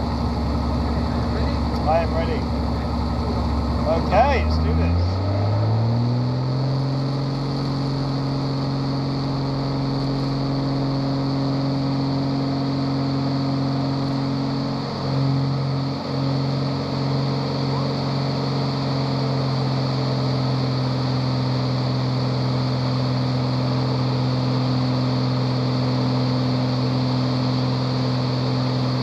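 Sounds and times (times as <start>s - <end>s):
propeller aircraft engine droning: 0.0s - 29.0s.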